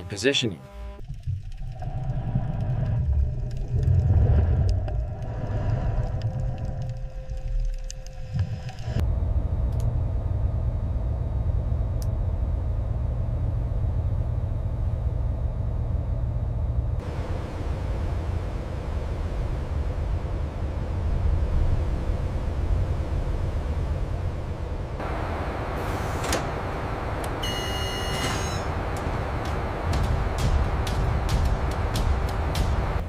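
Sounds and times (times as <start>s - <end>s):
steady low rumble: 1.0s - 33.0s.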